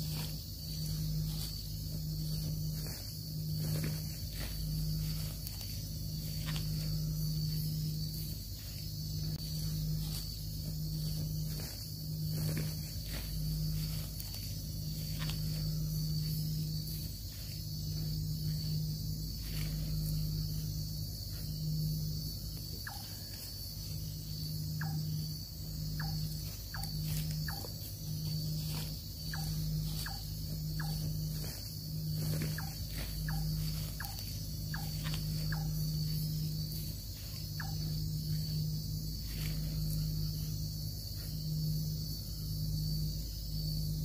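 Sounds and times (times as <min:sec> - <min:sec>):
high-pitched insect trill: 0:00.0 - 0:44.0
pulsing low hum: 0:00.0 - 0:44.0.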